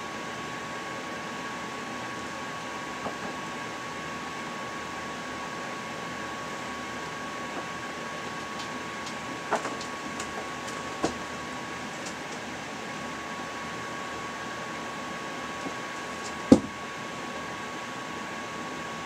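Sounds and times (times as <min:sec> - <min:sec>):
fan hiss with thin tone: 0:00.0 - 0:19.0.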